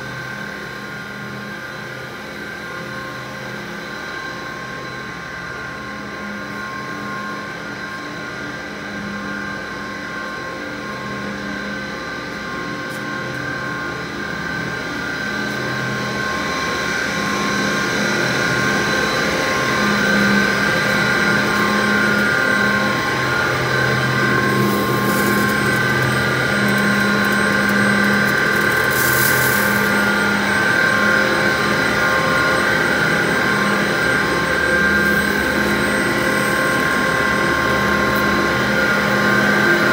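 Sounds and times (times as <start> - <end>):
factory machinery drone: 0.0 - 39.9.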